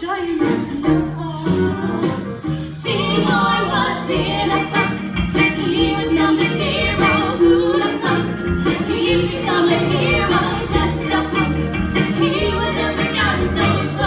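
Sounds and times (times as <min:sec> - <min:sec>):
instrumental accompaniment: 0:00.0 - 0:14.0
several voices singing: 0:02.7 - 0:14.0.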